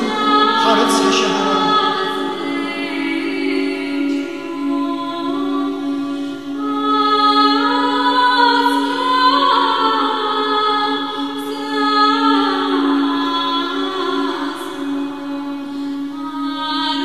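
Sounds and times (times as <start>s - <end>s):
choir singing unaccompanied chant: 0.0s - 15.6s
held low drone note: 0.0s - 17.0s.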